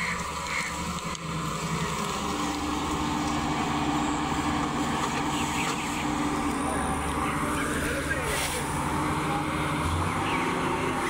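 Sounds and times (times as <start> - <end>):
grain discharging into truck: 0.0 - 10.2
combine harvester running: 0.0 - 11.0
steady hum: 0.0 - 11.0.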